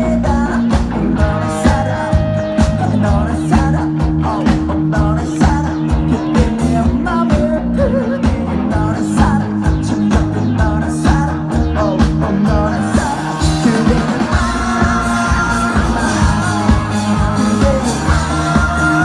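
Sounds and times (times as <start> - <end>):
bass guitar: 0.0 - 19.0
electric guitar: 0.0 - 19.0
person singing: 0.0 - 19.0
drum beat: 0.6 - 9.4, 10.1 - 19.0.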